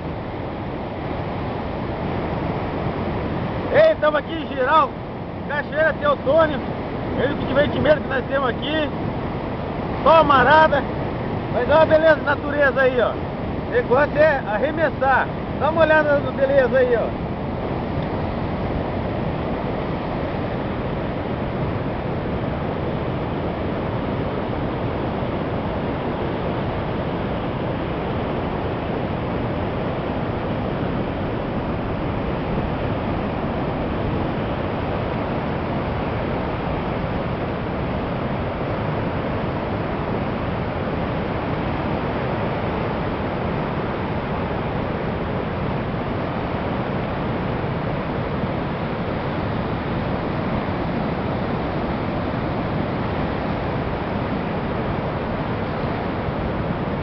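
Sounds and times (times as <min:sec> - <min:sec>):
waterfall and rapids rushing: 0:00.0 - 0:57.0.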